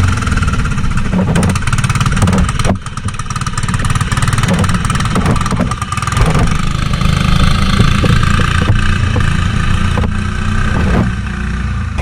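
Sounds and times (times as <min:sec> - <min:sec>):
light rattles: 0:00.0 - 0:11.3
riding lawn mower engine running: 0:00.0 - 0:12.0.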